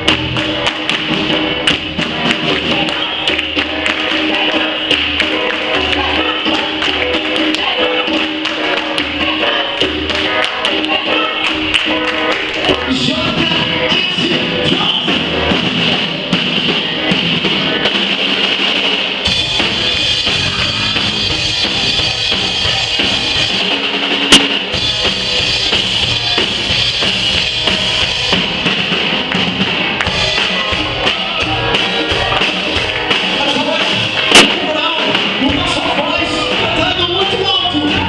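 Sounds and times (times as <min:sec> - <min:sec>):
snare and bass drum: 0:00.0 - 0:07.8, 0:13.4 - 0:38.0
live reggae band: 0:00.0 - 0:38.0.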